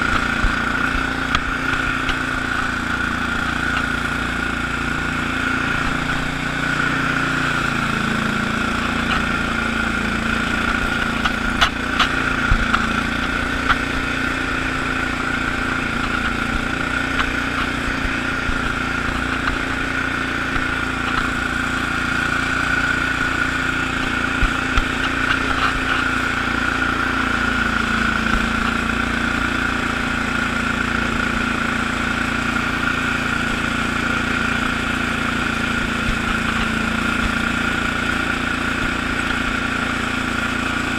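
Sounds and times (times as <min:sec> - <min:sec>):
garden tractor engine running: 0:00.0 - 0:40.9.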